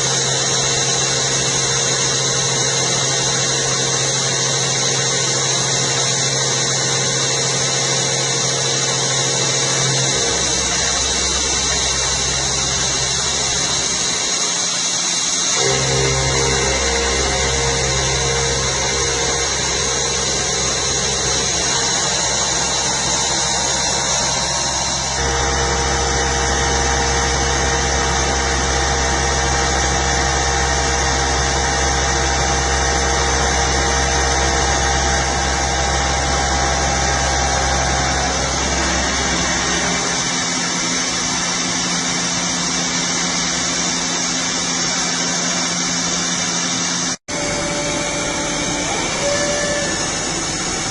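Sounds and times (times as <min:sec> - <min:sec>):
milling machine running: 0:00.0 - 0:50.9.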